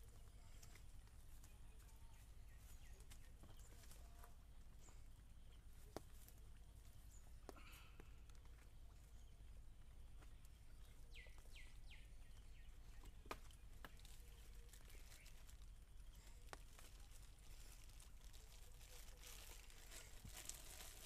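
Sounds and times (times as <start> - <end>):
faint outdoor hum: 0.0 - 21.0.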